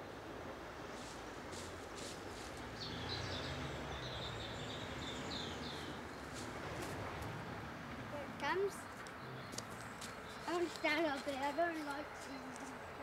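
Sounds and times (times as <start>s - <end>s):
steady outdoor hiss: 0.0s - 13.0s
small birds chirping: 1.0s - 7.4s, 8.0s - 13.0s.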